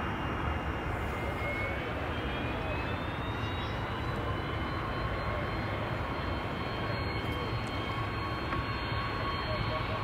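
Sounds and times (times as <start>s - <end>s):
airliner engines running: 0.0s - 10.0s.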